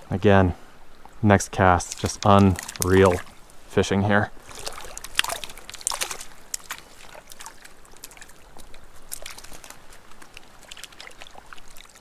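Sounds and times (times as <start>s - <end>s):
faint steady water wash: 0.0s - 12.0s
water trickling: 0.7s - 12.0s
small water splashes: 0.9s - 12.0s.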